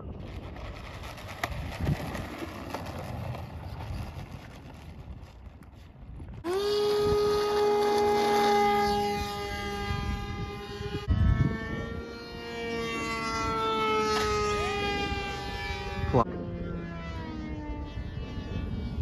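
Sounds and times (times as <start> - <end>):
model plane motor whine: 0.0 - 19.0
wind buffeting microphone: 0.0 - 19.0.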